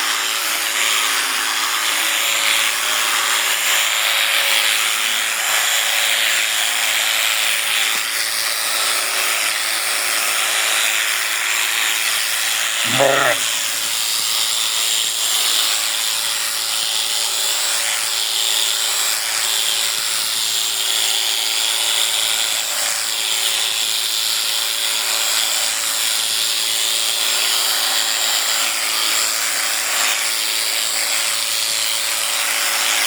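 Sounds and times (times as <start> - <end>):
electric shearing clipper buzzing: 0.0 - 33.0.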